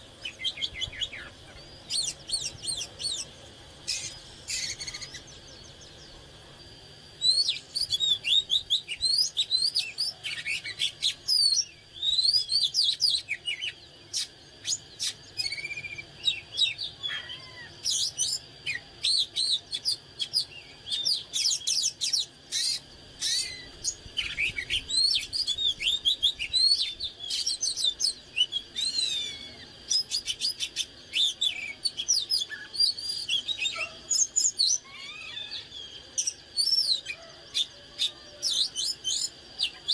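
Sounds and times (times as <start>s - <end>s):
bird singing whistles and chirps: 0.0s - 6.3s, 7.1s - 39.9s.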